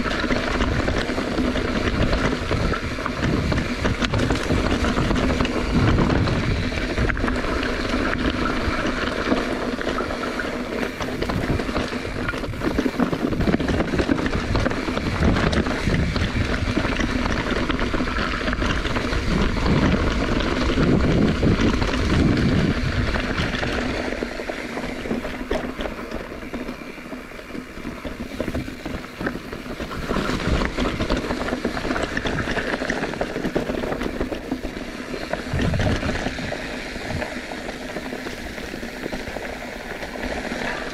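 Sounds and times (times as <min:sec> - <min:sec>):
bicycle rolling on rough trail: 0:00.0 - 0:40.9
wind buffeting microphone: 0:00.0 - 0:40.9.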